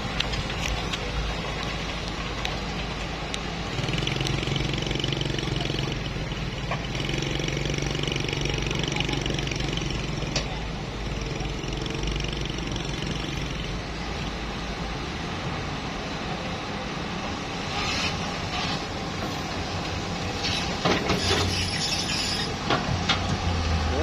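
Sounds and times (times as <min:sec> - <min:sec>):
truck engine rumbling under load: 0:00.0 - 0:24.0.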